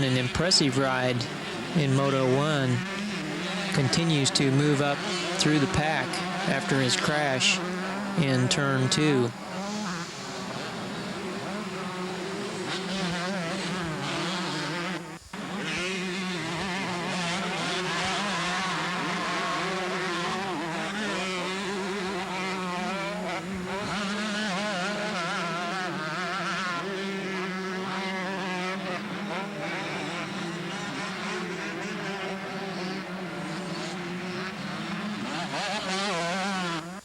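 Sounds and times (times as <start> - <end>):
motocross bikes revving: 0.0 - 37.0.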